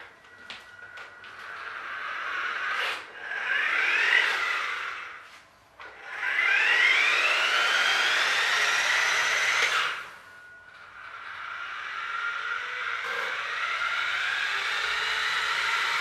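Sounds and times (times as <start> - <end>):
toy truck electric motor whining: 0.0 - 16.0.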